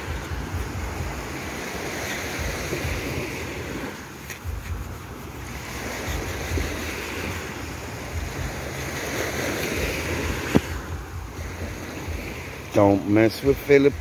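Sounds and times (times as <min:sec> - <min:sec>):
surf washing onto sandy beach: 0:00.0 - 0:14.0
wind buffeting microphone: 0:00.0 - 0:14.0.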